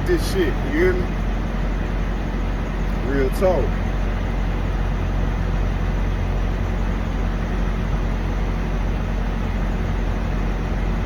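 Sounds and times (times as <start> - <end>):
diesel truck engines idling: 0.0 - 11.0.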